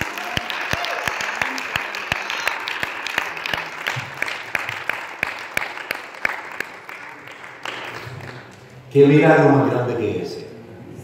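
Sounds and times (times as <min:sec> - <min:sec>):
congregation applauding: 0:00.0 - 0:08.9.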